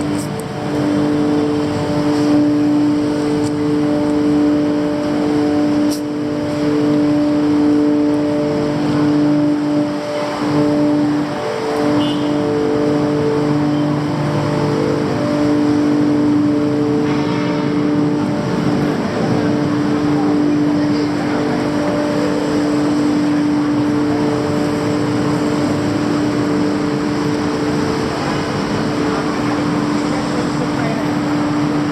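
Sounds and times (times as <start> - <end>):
engine drone: 0.0 - 31.9
street traffic: 0.0 - 31.9.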